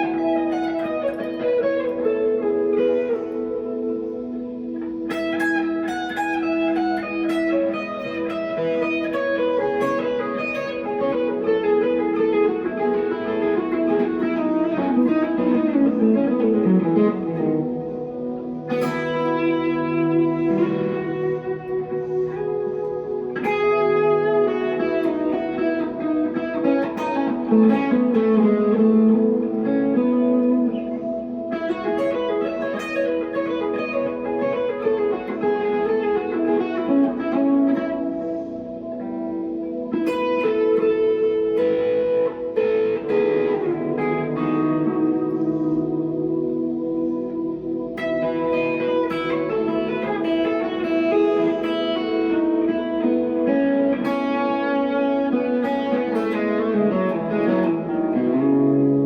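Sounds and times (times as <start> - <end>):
clean electric guitar melody: 0.0 - 59.0.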